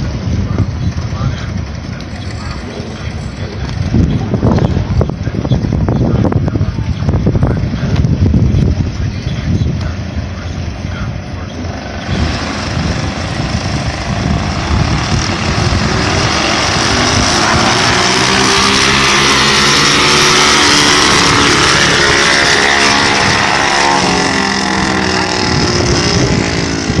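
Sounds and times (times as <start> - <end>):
minibike engines racing: 0.0 - 27.0.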